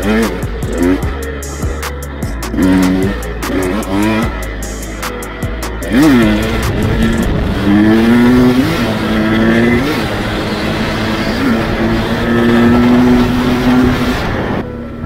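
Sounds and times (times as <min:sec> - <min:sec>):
motorcycle engine revving through gears: 0:00.0 - 0:15.0.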